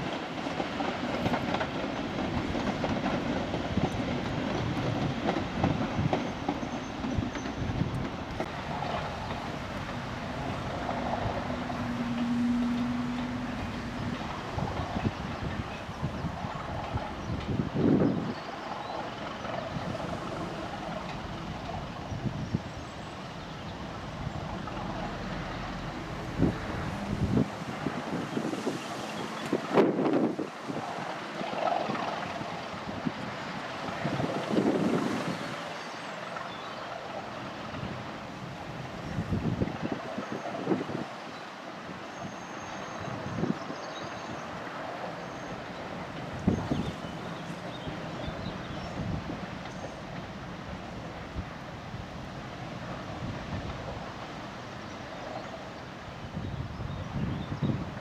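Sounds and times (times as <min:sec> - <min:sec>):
distant diesel locomotive rumble: 0:00.0 - 0:58.0
wind buffeting microphone: 0:00.0 - 0:58.0.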